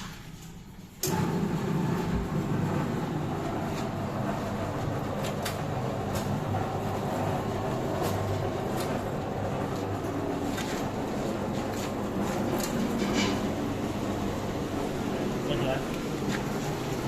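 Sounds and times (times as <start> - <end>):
dough moulder motor rumbling: 1.0 - 17.0.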